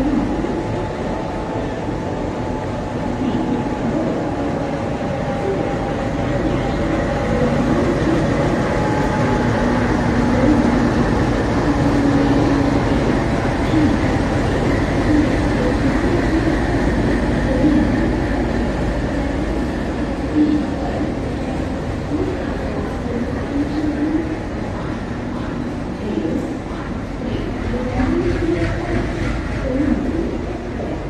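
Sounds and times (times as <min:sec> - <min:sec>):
train rolling rumble: 0:00.0 - 0:31.0.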